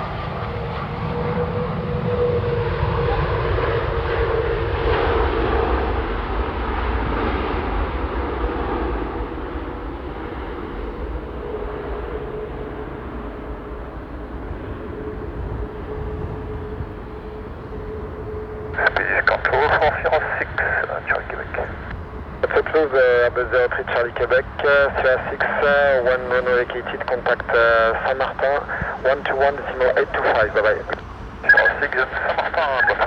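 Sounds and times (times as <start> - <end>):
jet engines rumbling with whine: 0.0 - 33.0.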